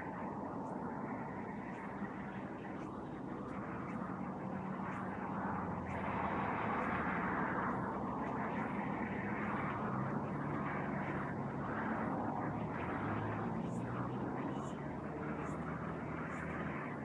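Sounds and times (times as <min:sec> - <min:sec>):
distant engine drone: 0:00.0 - 0:17.0.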